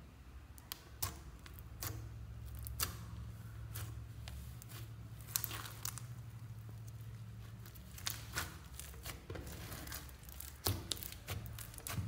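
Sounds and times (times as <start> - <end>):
slime crackling and crinkling: 0.6 - 12.0.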